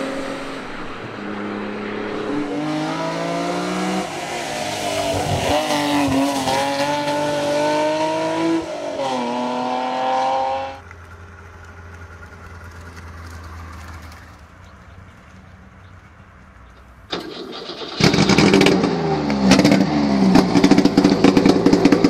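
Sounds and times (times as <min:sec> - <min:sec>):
car engine at full throttle: 0:00.0 - 0:14.4, 0:17.1 - 0:22.0.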